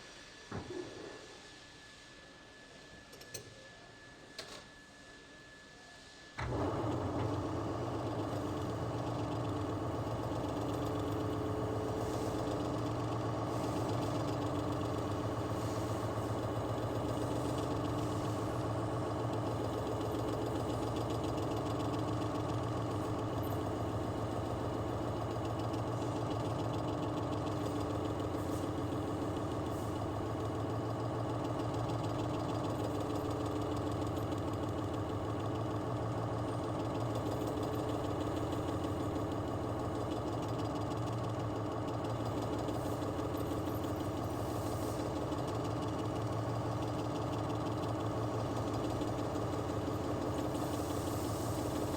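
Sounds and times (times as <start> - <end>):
lathe running: 6.4 - 51.9.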